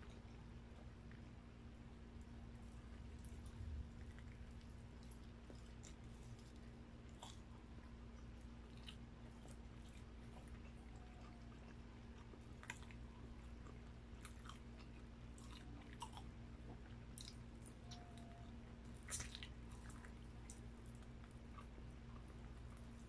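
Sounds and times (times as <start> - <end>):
low steady hum: 0.0 - 23.0
wet chewing mouth clicks: 2.9 - 23.0.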